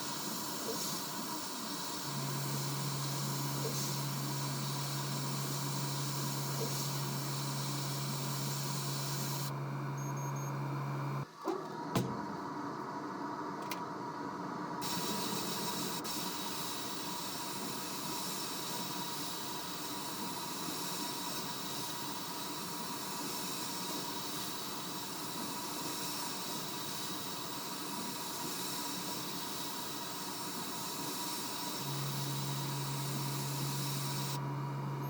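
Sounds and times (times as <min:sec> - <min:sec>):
faint steady hum: 0:00.0 - 0:11.3, 0:12.6 - 0:35.0
steady hissing machine noise: 0:00.0 - 0:11.3, 0:14.3 - 0:35.0.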